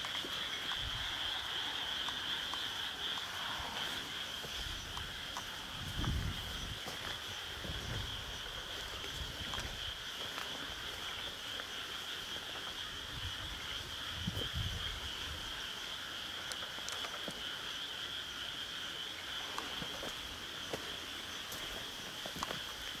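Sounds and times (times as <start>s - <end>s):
chorus of calling night animals: 0.0s - 23.0s.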